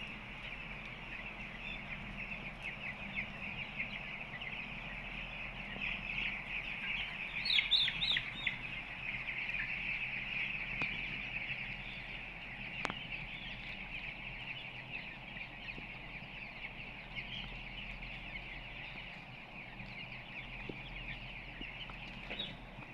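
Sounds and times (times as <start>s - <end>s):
chicks peeping: 0.0s - 22.9s
steady low hum: 0.0s - 22.9s.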